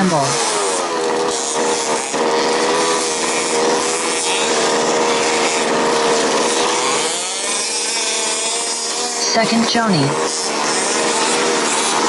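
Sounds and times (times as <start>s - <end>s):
small two-stroke engines buzzing: 0.0s - 12.0s.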